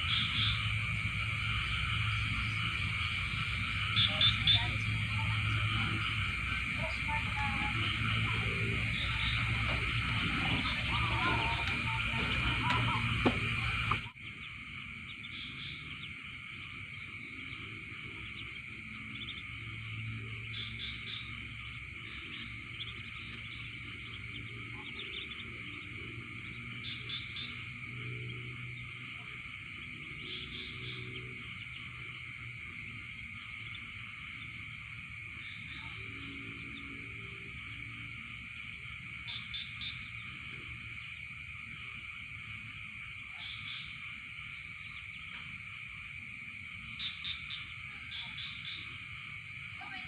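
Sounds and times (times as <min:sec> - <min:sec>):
low rumble: 0:00.0 - 0:43.0
frogs and insects trilling: 0:00.0 - 0:50.0
low hum: 0:00.0 - 0:50.0.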